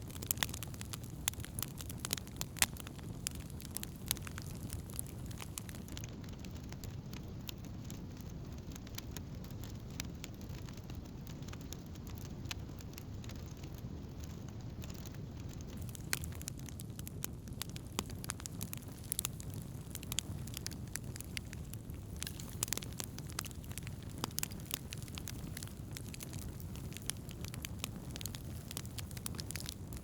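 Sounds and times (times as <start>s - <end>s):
campfire crackling: 0.0s - 30.0s
low fire rumble: 0.0s - 30.0s.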